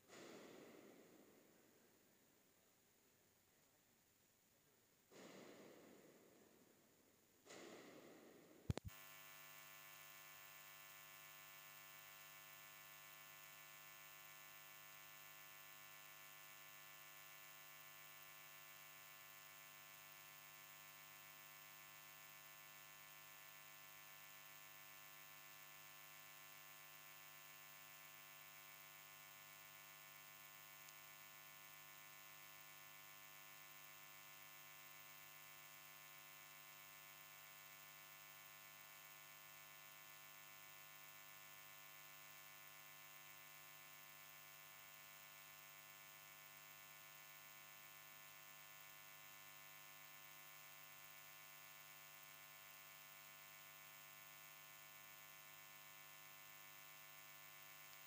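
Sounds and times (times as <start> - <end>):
faint electrical hum and hiss: 0.0 - 58.0.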